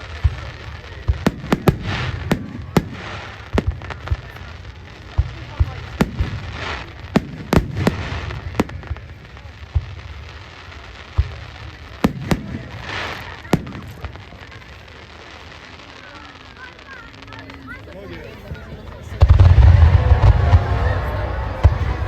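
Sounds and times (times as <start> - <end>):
crackling hiss: 0.0 - 22.0.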